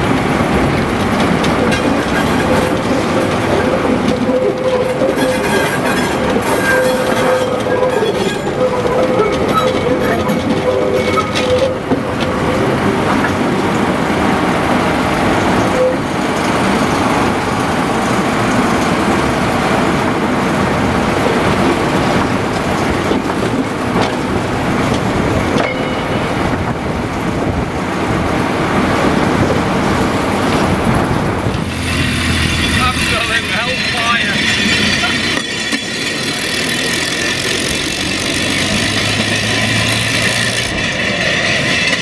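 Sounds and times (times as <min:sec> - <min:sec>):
diesel locomotive engine running: 0:00.0 - 0:42.0
wheels clattering on rails: 0:00.0 - 0:42.0.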